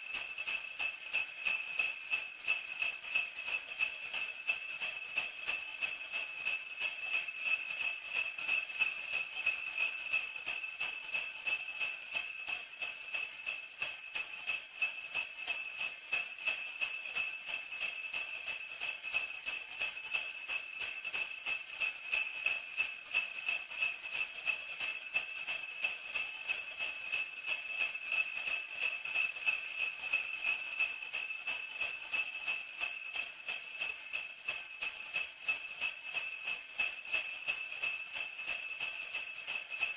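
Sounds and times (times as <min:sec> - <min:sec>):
sleigh bells jingling: 0:00.0 - 0:39.9.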